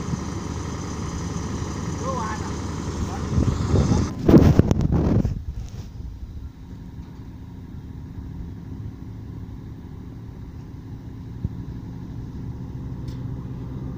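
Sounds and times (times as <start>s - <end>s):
engine rumbling: 0.0s - 13.9s.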